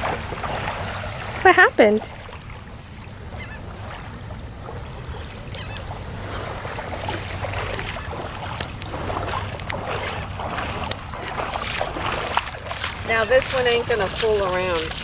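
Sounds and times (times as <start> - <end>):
water lapping and splashing: 0.0 - 15.0
wind rumbling on microphone: 0.0 - 15.0.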